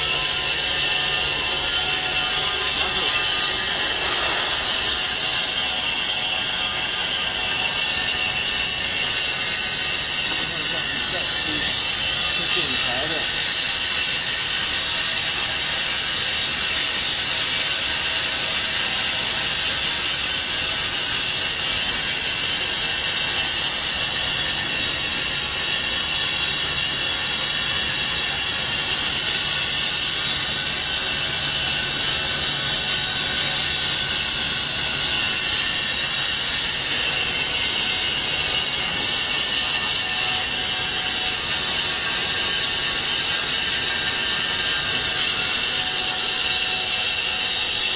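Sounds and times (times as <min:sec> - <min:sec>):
foam-cutting band saw hissing: 0:00.0 - 0:47.9.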